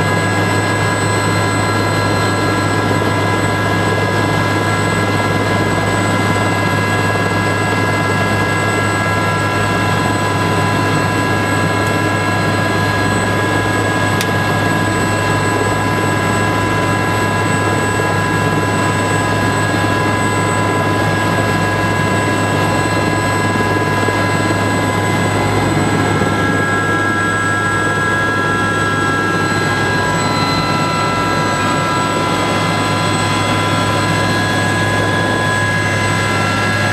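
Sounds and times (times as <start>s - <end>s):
helicopter turbine and rotor whine: 0.0s - 36.9s.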